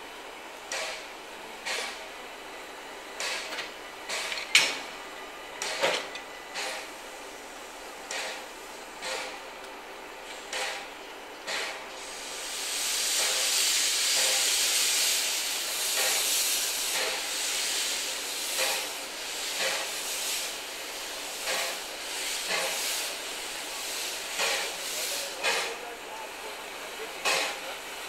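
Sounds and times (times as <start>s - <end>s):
steam locomotive exhaust beats: 0.0s - 28.0s
steam hissing from locomotive: 0.6s - 28.0s.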